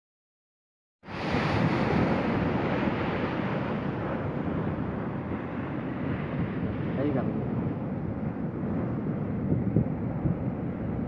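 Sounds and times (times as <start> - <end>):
surf washing on beach: 1.0 - 11.0
wind on microphone: 1.1 - 11.0.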